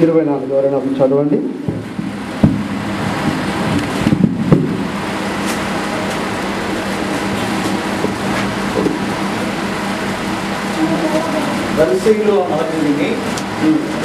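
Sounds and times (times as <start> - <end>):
mechanical room hum and hiss: 0.0 - 14.0.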